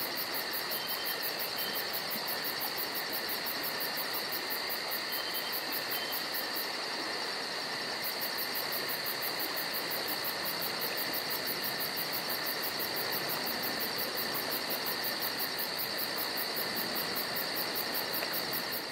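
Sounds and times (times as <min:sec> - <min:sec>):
constant hiss: 0:00.0 - 0:18.9
crickets chirping: 0:00.0 - 0:18.9.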